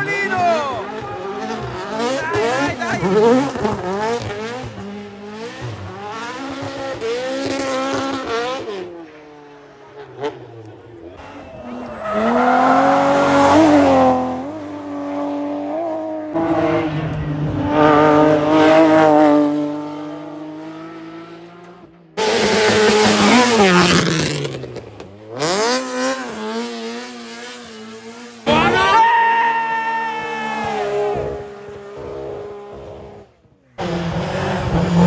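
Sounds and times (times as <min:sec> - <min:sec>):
rally car engines at full throttle: 0:00.0 - 0:35.0.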